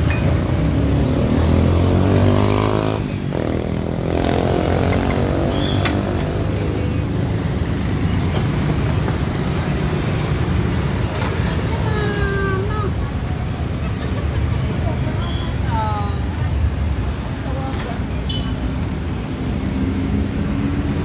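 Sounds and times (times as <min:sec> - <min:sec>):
motorcycles passing by: 0:00.0 - 0:21.0.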